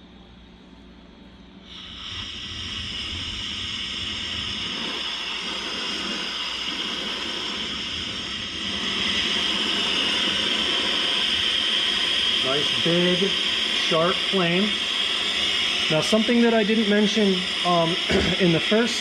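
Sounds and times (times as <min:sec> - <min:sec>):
torch flame hissing: 0:01.6 - 0:19.0.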